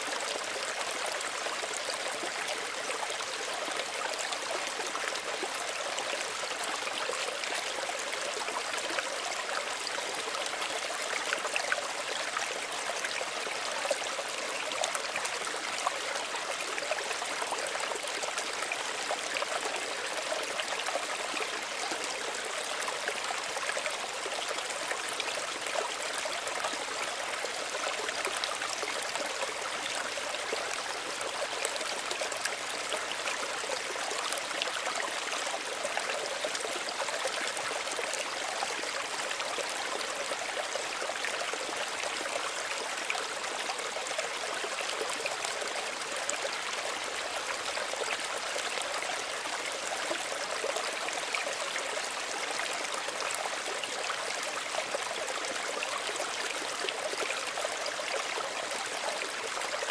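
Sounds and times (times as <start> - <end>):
small stream babbling: 0.0 - 59.9.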